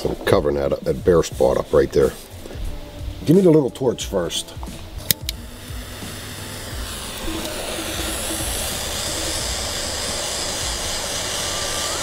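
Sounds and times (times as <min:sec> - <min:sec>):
micro torch hissing: 0:01.4 - 0:12.0.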